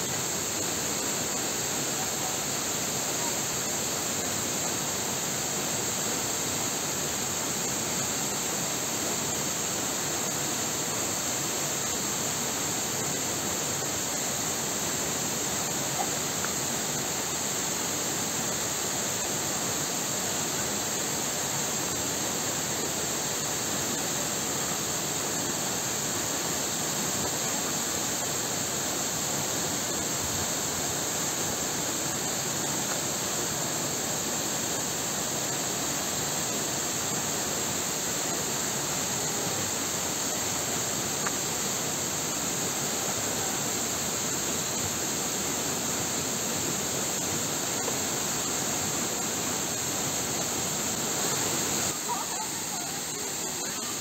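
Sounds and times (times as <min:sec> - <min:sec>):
waterfall rushing onto rock: 0:00.0 - 0:54.0.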